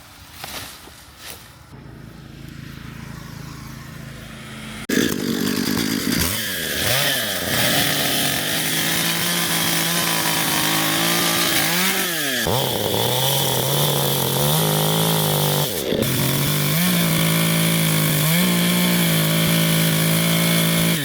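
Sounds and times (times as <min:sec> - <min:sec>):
two-stroke garden tool engine revving: 0:01.7 - 0:21.0.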